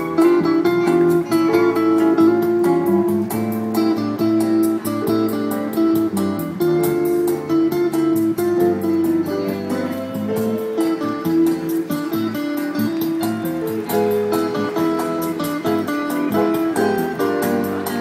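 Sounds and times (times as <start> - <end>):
plucked guitar melody: 0.0 - 18.0
strummed guitar chords: 0.0 - 18.0.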